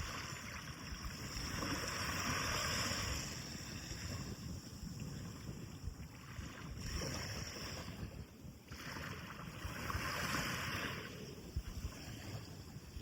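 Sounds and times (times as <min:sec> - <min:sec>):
waves breaking on beach: 0:00.0 - 0:13.0
wind rumble on microphone: 0:00.0 - 0:13.0.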